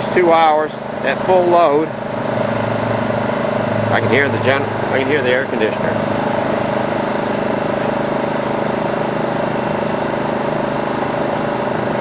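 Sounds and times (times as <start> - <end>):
generator engine running: 0.0 - 12.0
window air conditioner running: 0.0 - 12.0.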